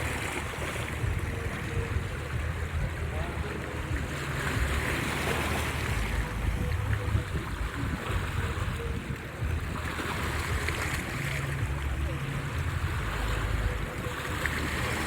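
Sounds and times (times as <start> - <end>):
low steady hum: 0.0 - 15.0
sea waves washing ashore: 0.0 - 15.0
wind on microphone: 0.0 - 15.0.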